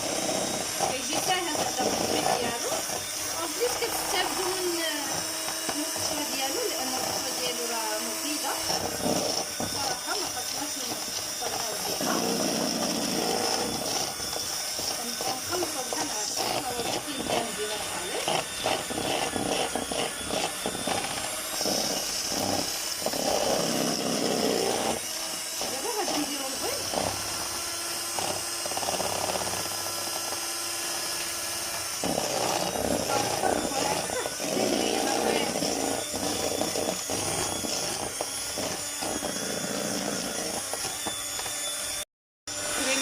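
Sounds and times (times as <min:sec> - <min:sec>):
electric mixer whining: 0:00.0 - 0:43.0.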